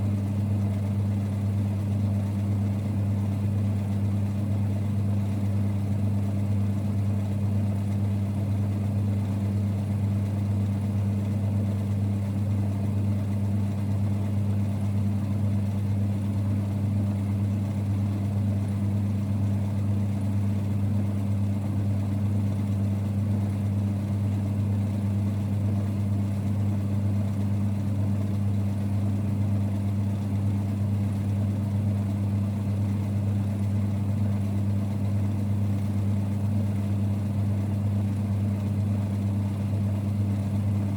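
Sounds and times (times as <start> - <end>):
lathe running with low hum: 0.0 - 40.9.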